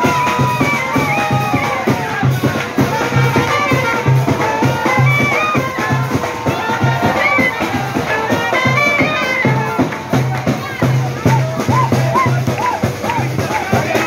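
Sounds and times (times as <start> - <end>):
saxophones and clarinet melody: 0.0 - 14.0
steady drum beat: 0.0 - 14.0.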